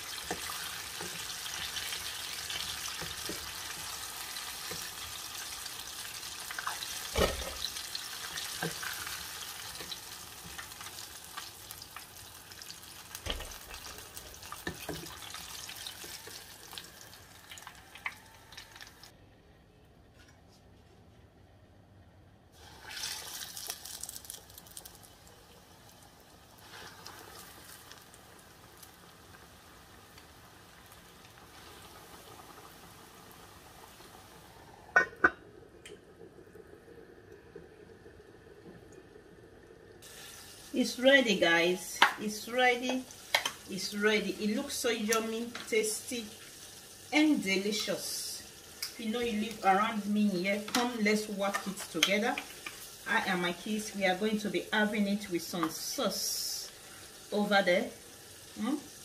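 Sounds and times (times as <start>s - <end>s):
chicken sizzling in hot oil: 0.0s - 19.1s, 22.6s - 35.4s, 40.0s - 59.0s.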